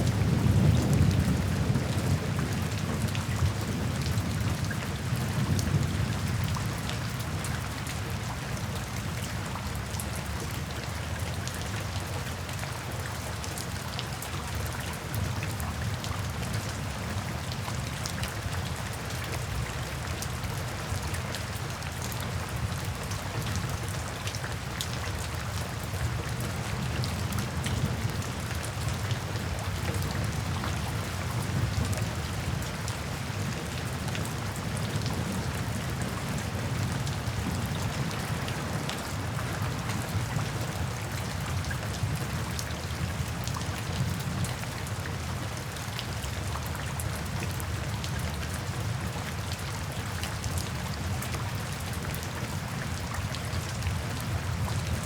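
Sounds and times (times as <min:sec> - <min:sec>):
raindrops ticking on a surface: 0:00.0 - 0:55.0.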